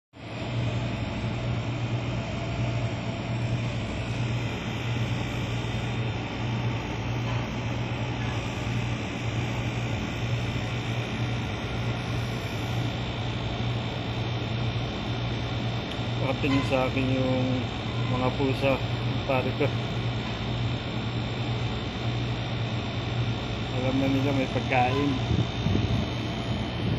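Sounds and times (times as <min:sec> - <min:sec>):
machine humming: 0:00.2 - 0:26.9
constant background noise: 0:00.3 - 0:26.9.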